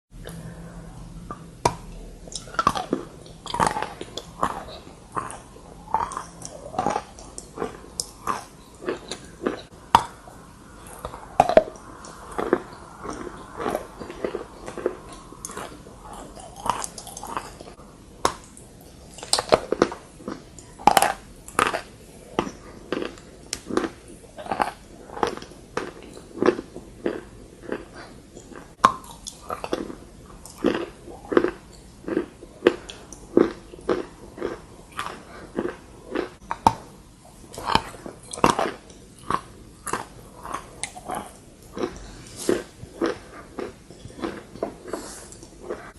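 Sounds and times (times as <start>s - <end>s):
chalk crunching when chewed: 1.6s - 36.7s, 37.5s - 45.9s.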